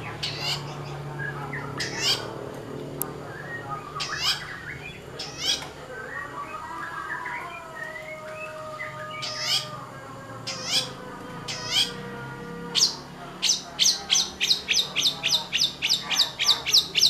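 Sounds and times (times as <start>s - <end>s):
shrike harsh calls: 0.0s - 2.5s, 3.2s - 17.0s.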